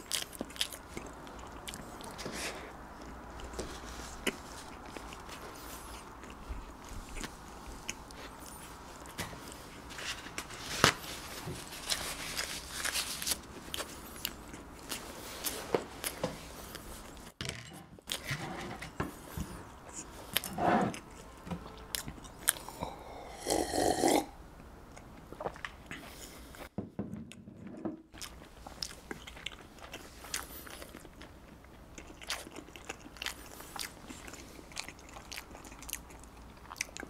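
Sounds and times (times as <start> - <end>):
chewing bread: 0.0 - 17.4, 19.1 - 23.5, 24.9 - 26.7, 28.1 - 37.0.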